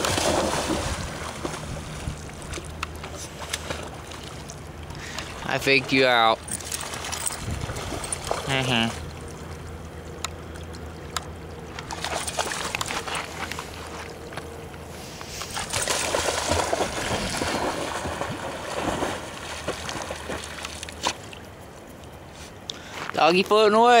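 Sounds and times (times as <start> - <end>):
water splashing around dog: 0.0 - 14.2, 15.4 - 21.4.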